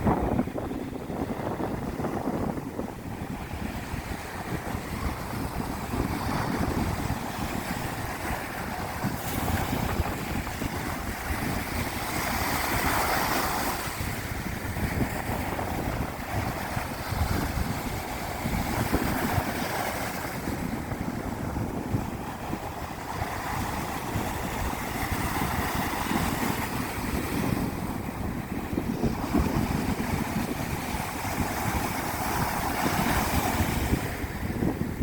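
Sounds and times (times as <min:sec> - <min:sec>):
ocean surf breaking on beach: 0:00.0 - 0:35.0
wind rumbling on microphone: 0:00.0 - 0:35.0.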